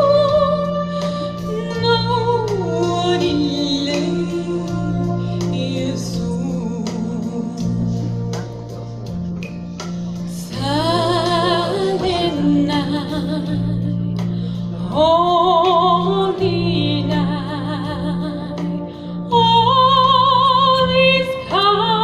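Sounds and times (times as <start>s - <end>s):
woman singing a hymn: 0.0s - 8.2s, 10.3s - 14.2s, 14.8s - 22.0s
electronic keyboard accompaniment: 0.0s - 22.0s.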